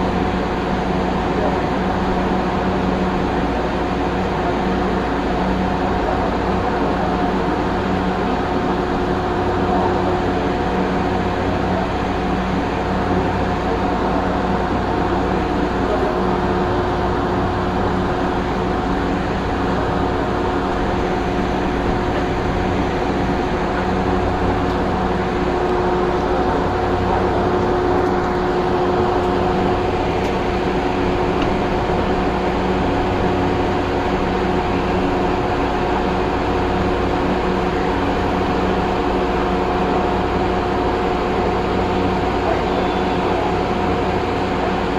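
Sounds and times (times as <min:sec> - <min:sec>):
pitched equipment drone: 0:00.0 - 0:44.9
train cab running hum: 0:00.0 - 0:44.9.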